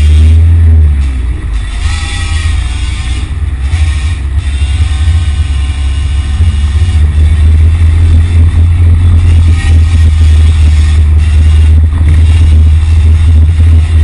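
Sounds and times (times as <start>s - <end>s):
cars passing: 0.0s - 14.0s
low traffic rumble: 0.0s - 14.0s.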